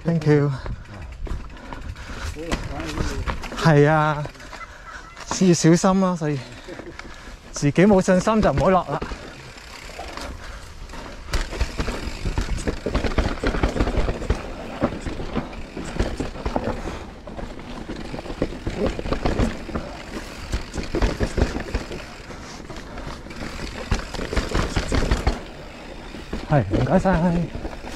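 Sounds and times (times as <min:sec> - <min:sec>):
bike clattering over rough trail: 0:00.0 - 0:27.9.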